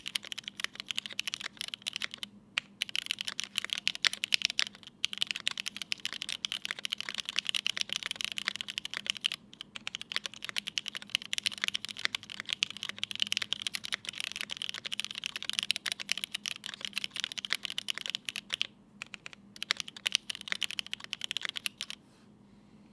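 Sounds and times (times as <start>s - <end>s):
fast typing on mechanical keyboard: 0.0s - 22.0s.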